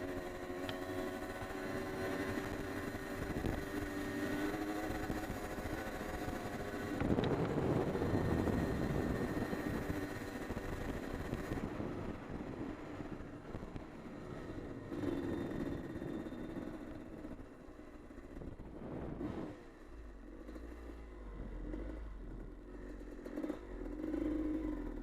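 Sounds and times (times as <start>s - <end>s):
two-stroke dirt bike engine: 0.0s - 25.0s.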